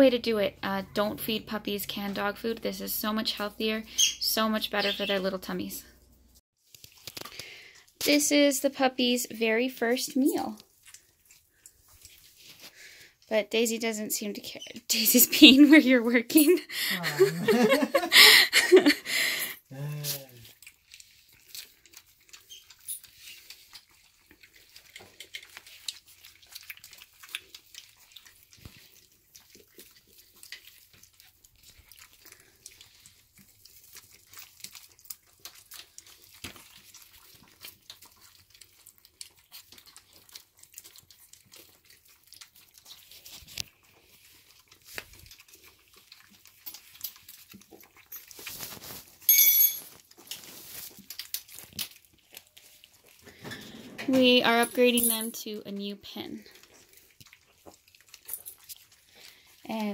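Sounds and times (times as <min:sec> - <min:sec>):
puppies lapping and chewing: 0:00.0 - 0:19.7, 0:20.4 - 0:59.9.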